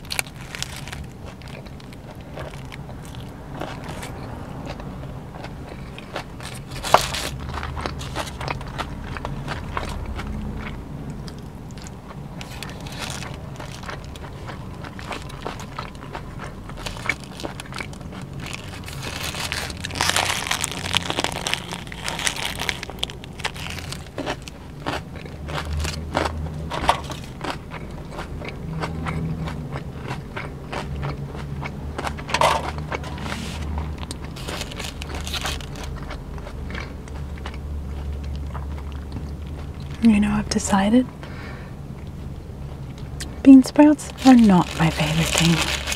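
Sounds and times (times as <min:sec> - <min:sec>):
chewing and crunching: 0:00.0 - 0:45.9
steady low hum: 0:00.0 - 0:45.9.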